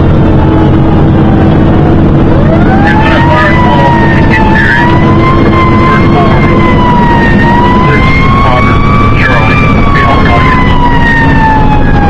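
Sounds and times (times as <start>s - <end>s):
fire engine rumbling: 0.0s - 12.0s
siren wailing: 0.0s - 12.0s.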